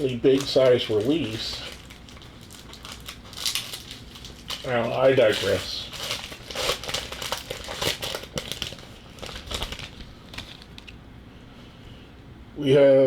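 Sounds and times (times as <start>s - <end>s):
wrappers crinkling and rustling: 0.0s - 11.0s.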